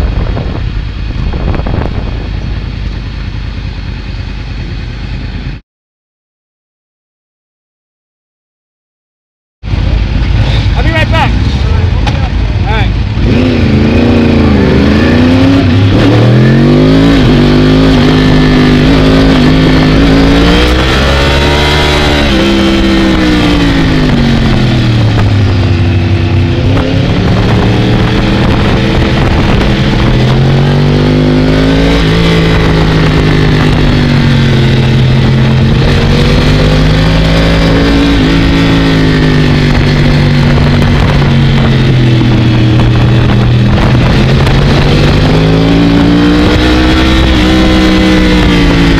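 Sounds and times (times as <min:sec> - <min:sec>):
motorcycle engine revving: 0:09.6 - 0:48.9.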